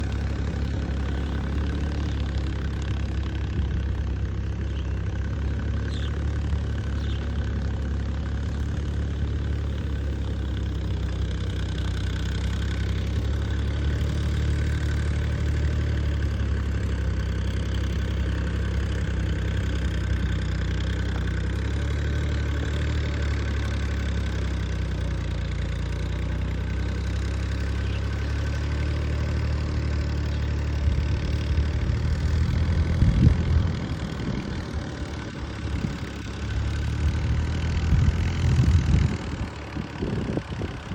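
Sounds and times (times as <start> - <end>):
low mechanical drone: 0.0 - 20.6, 27.7 - 40.9.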